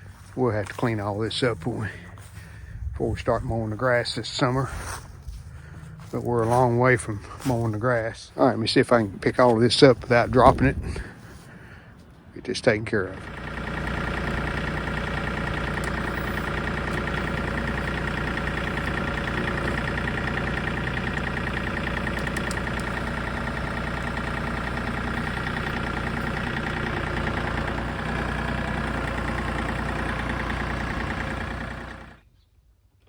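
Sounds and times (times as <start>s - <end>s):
tractor diesel engine running: 0.0s - 12.3s, 12.9s - 32.2s.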